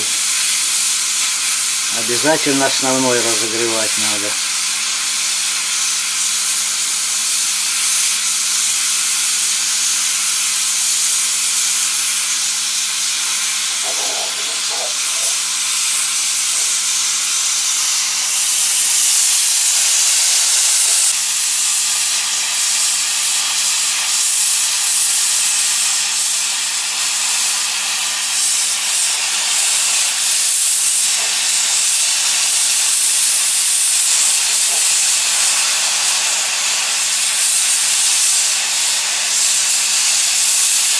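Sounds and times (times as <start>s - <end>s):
hot air gun hissing: 0.0s - 40.9s.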